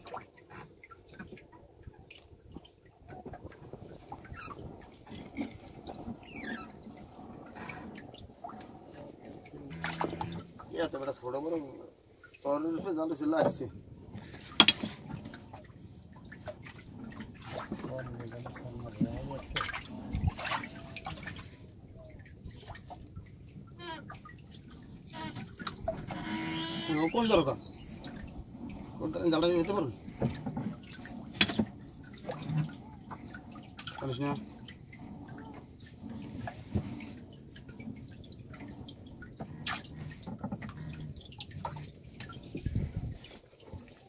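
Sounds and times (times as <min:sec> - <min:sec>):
water dripping and splashing: 0:00.0 - 0:44.0.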